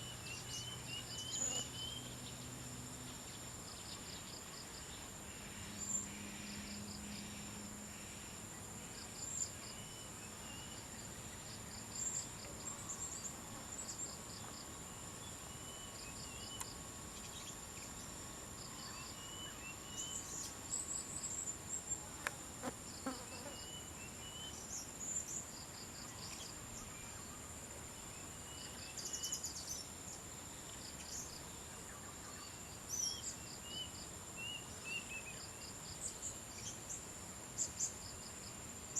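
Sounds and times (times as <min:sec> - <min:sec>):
insect drone: 0:00.0 - 0:38.9
insects chirping: 0:00.0 - 0:38.9.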